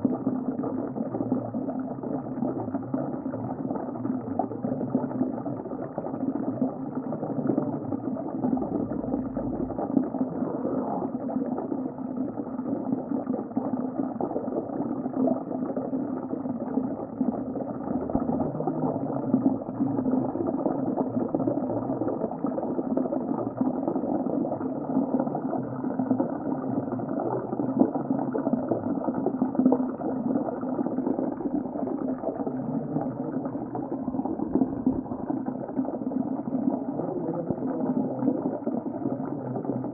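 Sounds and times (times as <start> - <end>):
fine bubbling: 0.0 - 39.9
muffled underwater water rush: 0.0 - 39.9.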